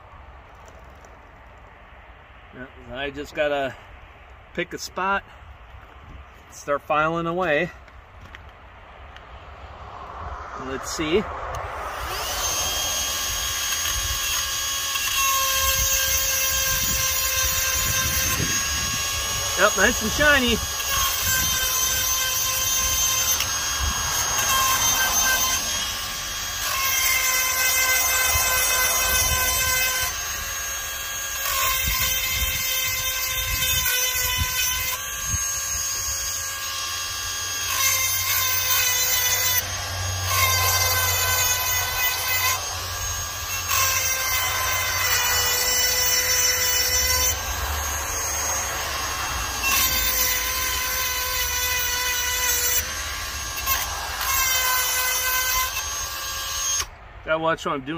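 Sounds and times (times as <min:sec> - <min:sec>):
chain sharpener grinding whine: 0:08.2 - 0:57.0.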